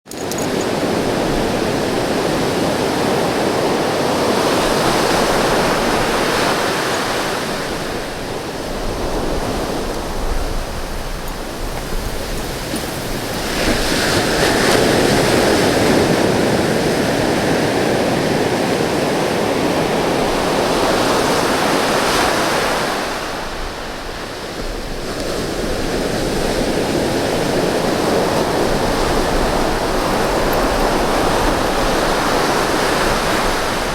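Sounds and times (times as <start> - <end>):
ocean surf breaking: 0.4 - 33.9.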